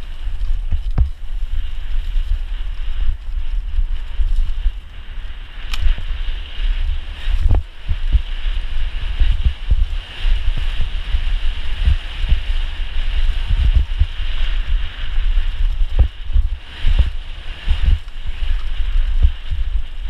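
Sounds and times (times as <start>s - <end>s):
bike knocking and rattling: 0.0s - 20.0s
bike tyre noise: 0.0s - 20.0s
wind buffeting microphone: 0.0s - 20.0s.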